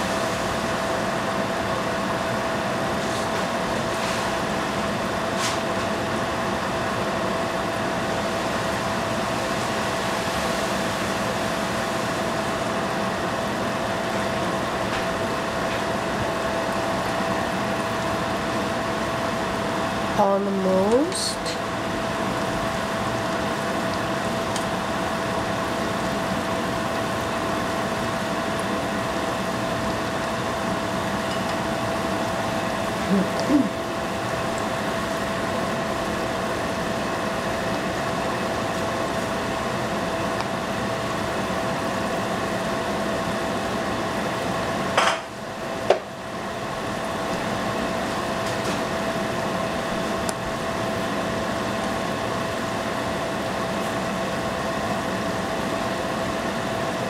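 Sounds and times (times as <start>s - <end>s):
food frying in hot oil: 0.0s - 57.0s
steady hum: 0.0s - 57.0s.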